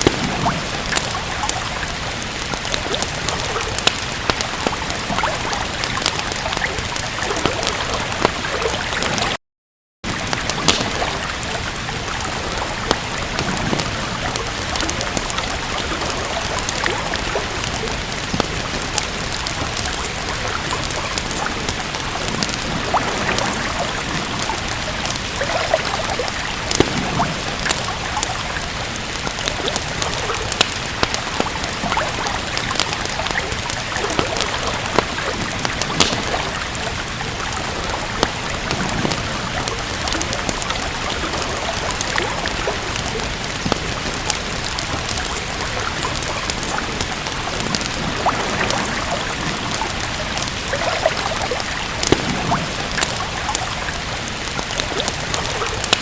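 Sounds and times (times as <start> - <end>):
steady rain hiss: 0.0 - 9.4, 10.1 - 56.0
wood fire crackling: 0.0 - 9.4, 10.0 - 56.0.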